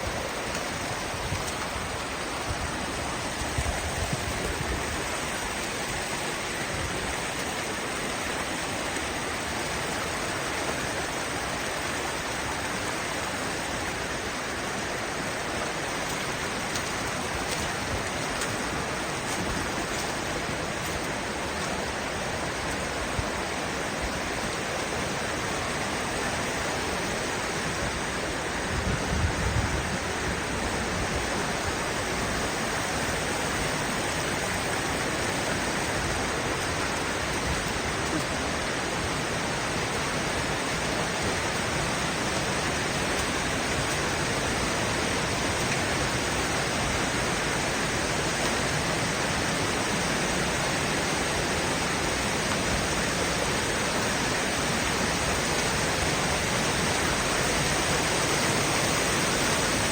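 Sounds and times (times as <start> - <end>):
water rushing through canyon: 0.0 - 59.9.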